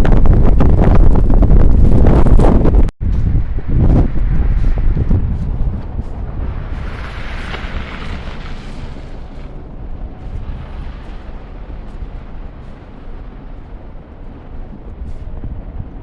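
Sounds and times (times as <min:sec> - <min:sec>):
wind buffeting microphone: 0:00.0 - 0:16.0
hissing wind gust: 0:01.7 - 0:16.0.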